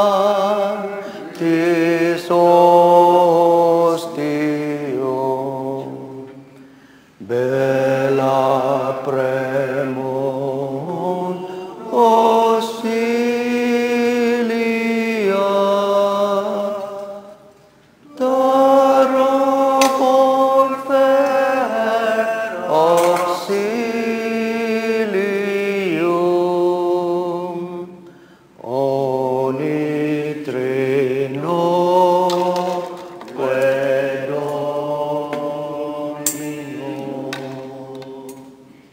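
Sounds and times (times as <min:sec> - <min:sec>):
chant-style hymn singing: 0:00.0 - 0:38.9.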